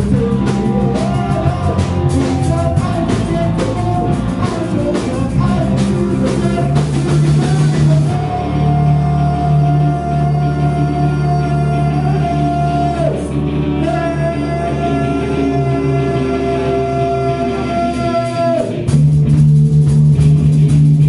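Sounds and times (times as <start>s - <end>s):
person singing: 0.0s - 18.9s
bass guitar: 0.0s - 21.0s
drum kit: 0.0s - 21.0s
electric guitar: 0.0s - 21.0s.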